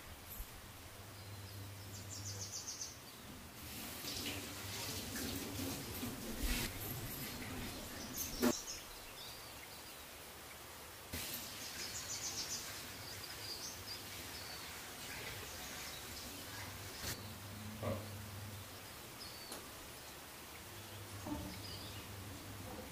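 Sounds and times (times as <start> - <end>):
background noise: 0.0 - 22.9.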